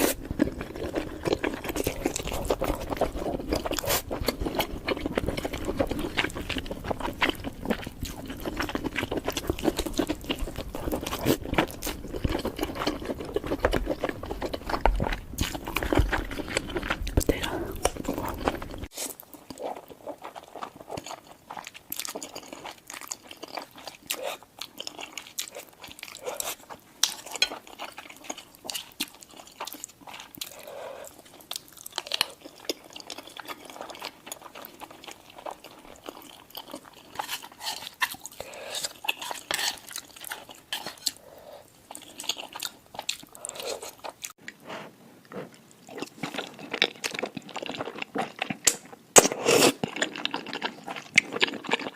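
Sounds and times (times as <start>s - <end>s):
chewing crunchy food: 0.0s - 51.9s.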